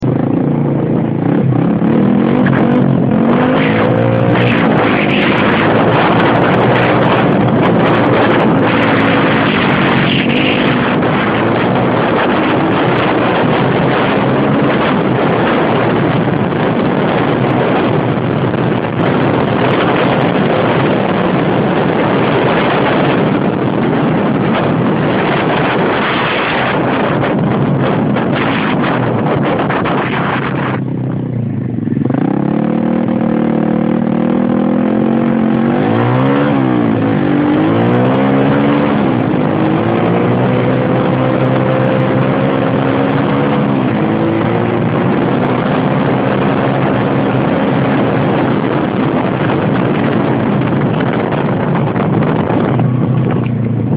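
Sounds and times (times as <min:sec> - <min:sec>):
motorbike engine revving: 0:00.0 - 0:53.9
wind rushing over microphone: 0:00.0 - 0:53.9.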